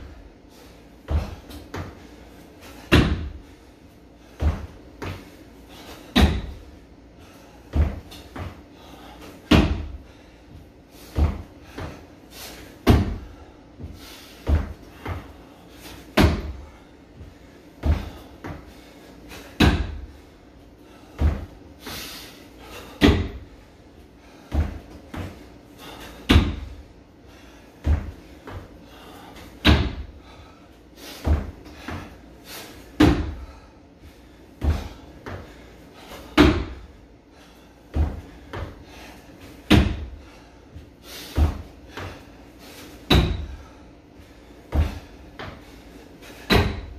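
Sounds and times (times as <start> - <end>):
feet thudding on wooden box: 1.0 - 3.6, 4.2 - 6.7, 7.6 - 20.2, 20.9 - 23.6, 24.3 - 26.8, 27.8 - 30.5, 31.1 - 32.2, 32.8 - 33.6, 34.6 - 37.0, 37.8 - 43.8, 44.6 - 46.9.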